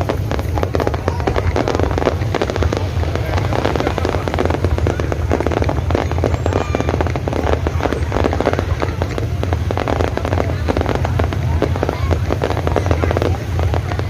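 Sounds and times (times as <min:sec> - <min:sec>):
deep rumble: 0:00.0 - 0:14.0
fireworks crackling bangs: 0:00.0 - 0:14.0.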